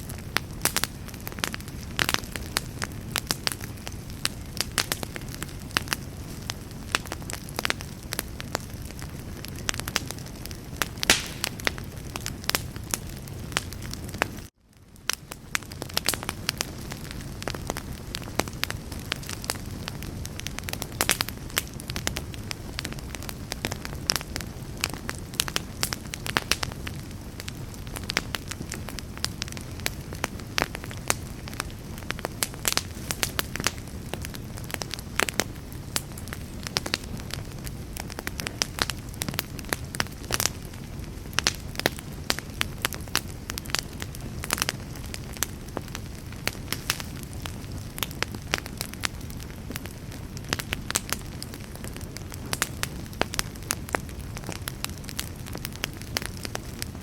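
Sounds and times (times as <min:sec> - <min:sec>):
campfire crackling: 0:00.0 - 0:57.0
flames rushing: 0:00.1 - 0:57.0.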